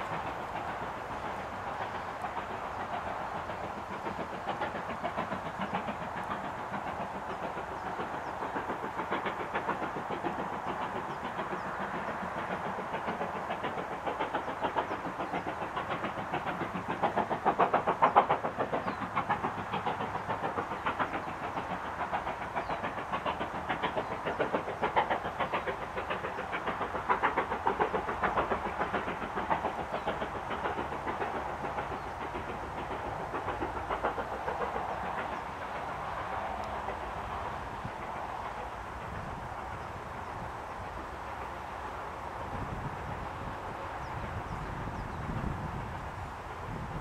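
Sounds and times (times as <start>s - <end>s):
motorway traffic roar: 0.0s - 47.0s
steam locomotive exhaust beats: 0.0s - 47.0s.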